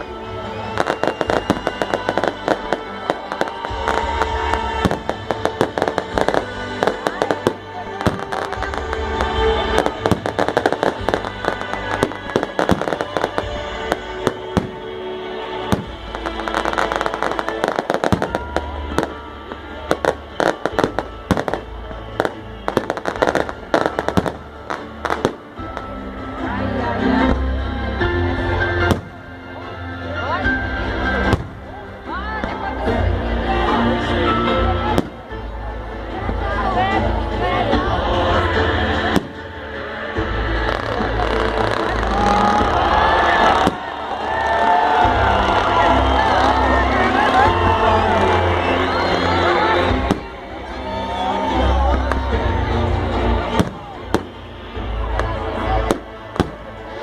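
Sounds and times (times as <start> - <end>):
music playing: 0.0 - 57.0.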